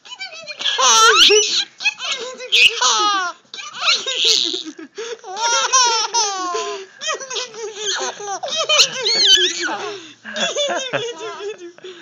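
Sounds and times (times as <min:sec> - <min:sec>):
baby laughing: 0:00.6 - 0:11.6.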